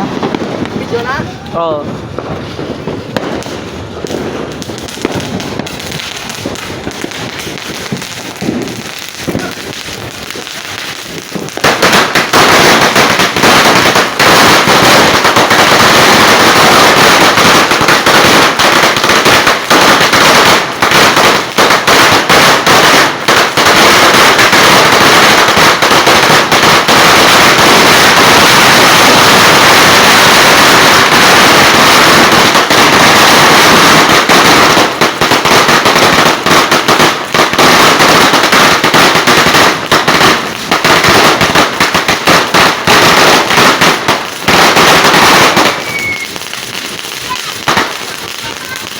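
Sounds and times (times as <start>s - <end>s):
firecracker string crackling: 0.0s - 48.9s.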